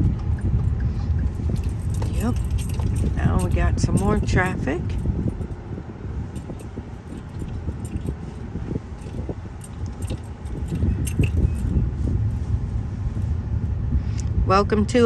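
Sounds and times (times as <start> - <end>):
small rattles and clicks: 0.0 - 5.6, 6.3 - 13.3
car rumbling in traffic: 0.0 - 15.0.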